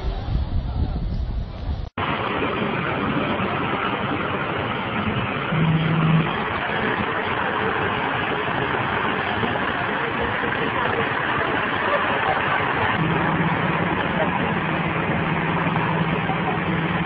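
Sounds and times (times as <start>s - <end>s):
road vehicles: 0.0s - 17.0s.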